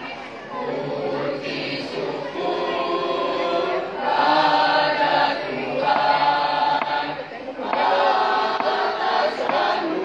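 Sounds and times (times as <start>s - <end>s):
children's choir singing: 0.0s - 10.0s.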